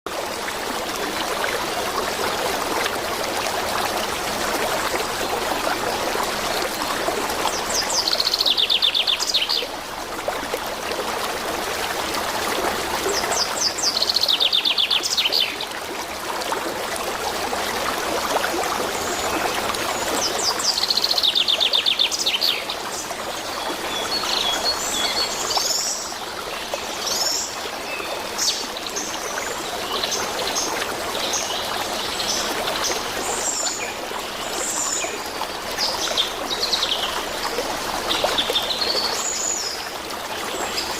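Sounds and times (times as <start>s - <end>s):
stream running water: 0.1s - 40.9s.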